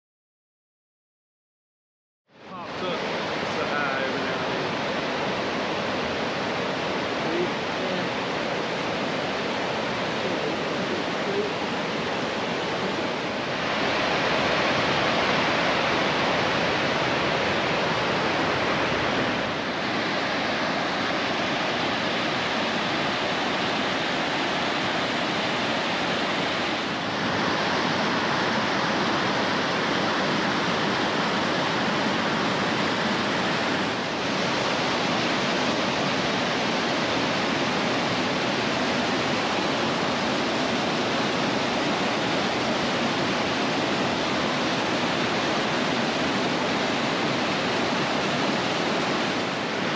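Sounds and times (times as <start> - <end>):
whitewater rushing: 2.4 - 49.9.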